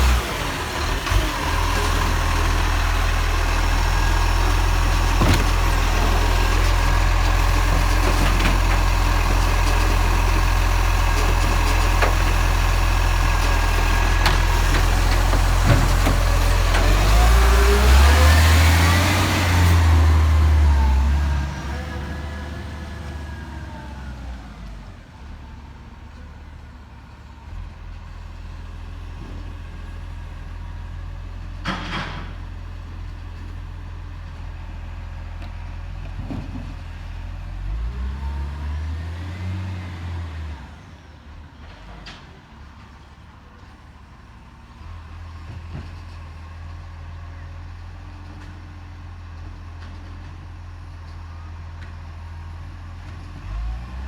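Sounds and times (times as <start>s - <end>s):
truck diesel engine rumbling: 0.0s - 54.0s.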